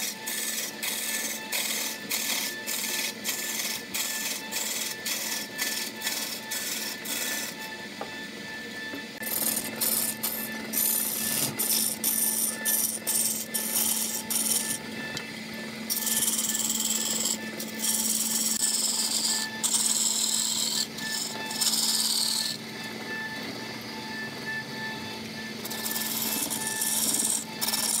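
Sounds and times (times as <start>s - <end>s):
lathe tool rasping wood: 0.0s - 8.1s, 8.8s - 23.9s, 25.4s - 28.0s
motor hum: 0.0s - 28.0s.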